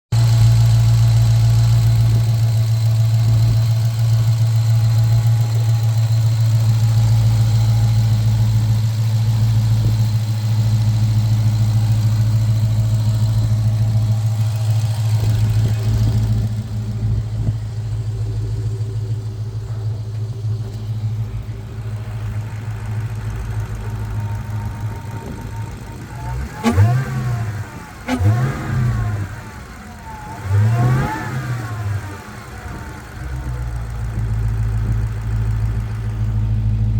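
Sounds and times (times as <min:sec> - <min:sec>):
engine idling and revving: 0:00.0 - 0:36.9.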